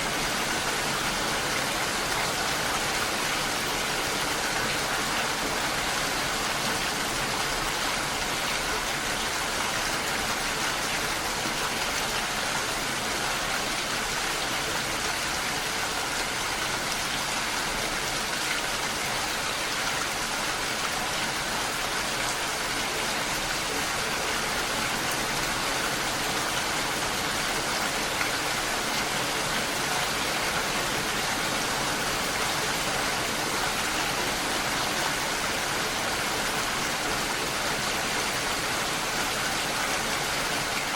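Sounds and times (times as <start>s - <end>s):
rain falling on a lake: 0.0s - 40.9s.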